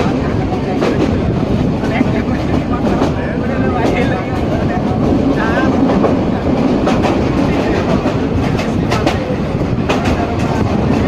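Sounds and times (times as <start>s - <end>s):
train rumbling on rails: 0.0s - 11.0s
wheels clacking over rail joints: 0.0s - 11.0s.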